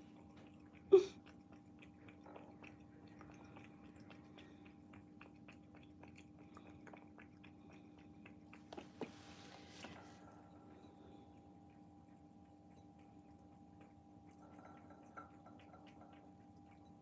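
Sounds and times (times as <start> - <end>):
cat lapping food: 0.0 - 17.0.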